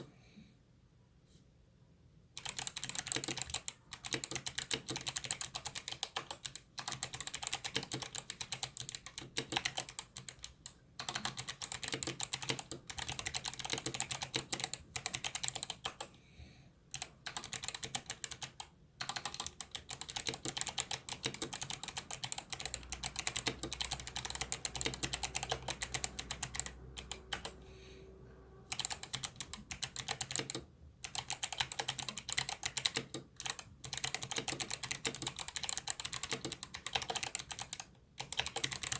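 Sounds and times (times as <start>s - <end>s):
fast typing on clicky keyboard: 2.4s - 16.1s, 16.9s - 27.6s, 28.7s - 38.9s.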